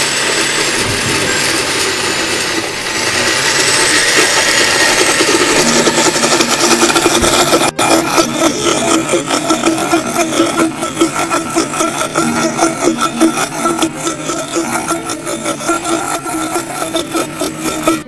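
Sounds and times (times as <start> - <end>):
blender motor grinding: 0.0 - 18.0.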